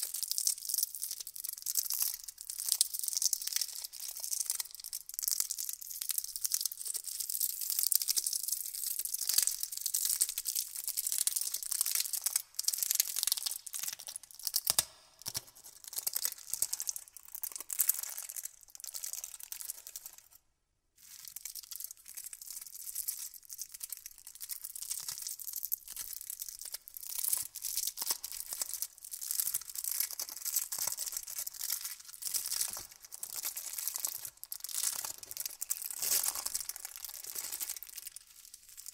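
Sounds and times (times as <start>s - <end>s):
candy wrappers crinkling: 0.0s - 20.4s, 21.0s - 38.9s.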